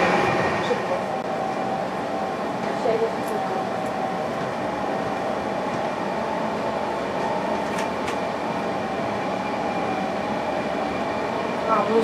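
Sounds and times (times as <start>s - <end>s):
passenger train rumble and hum: 0.0s - 12.0s.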